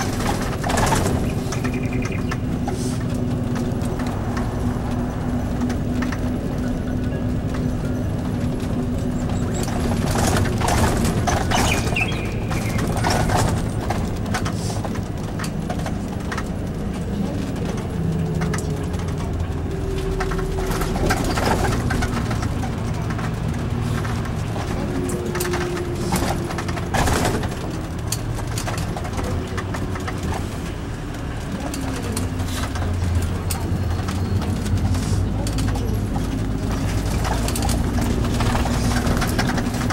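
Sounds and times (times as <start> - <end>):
body and door rattles: 0.0 - 39.9
diesel bus engine: 0.0 - 39.9.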